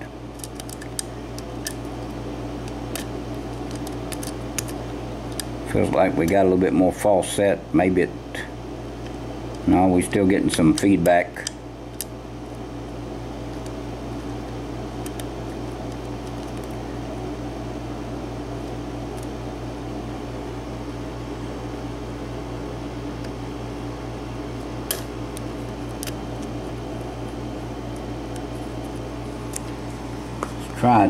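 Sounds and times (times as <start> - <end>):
air conditioner humming: 0.0 - 31.0.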